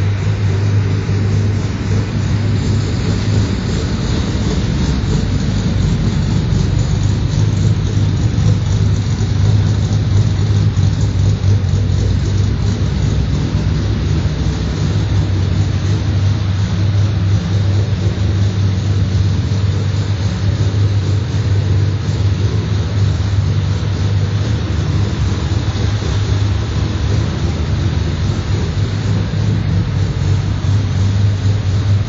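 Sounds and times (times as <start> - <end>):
car engine running steadily: 0.0 - 32.0.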